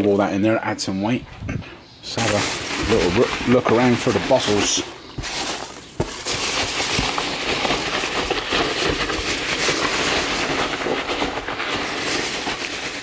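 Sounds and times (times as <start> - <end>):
hand digging through packing peanuts: 2.1 - 13.0.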